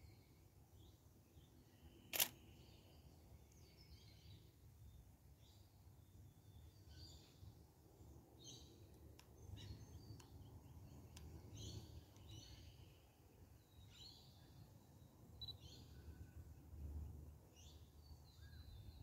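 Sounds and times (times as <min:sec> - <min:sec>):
faint birdsong chirping: 0:00.0 - 0:19.0.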